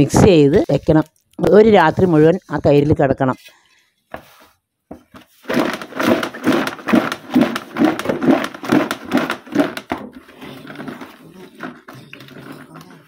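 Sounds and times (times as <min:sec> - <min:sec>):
hand mixing wet squelching: 0:00.0 - 0:04.0, 0:05.2 - 0:13.0.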